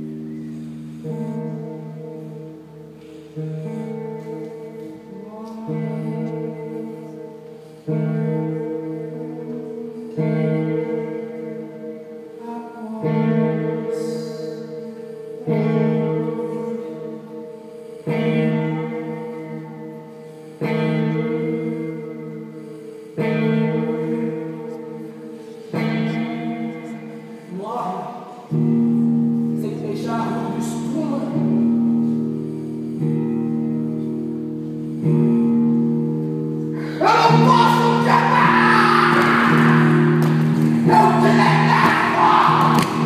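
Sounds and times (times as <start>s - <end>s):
electric guitar playing slow chords: 0.0s - 43.0s.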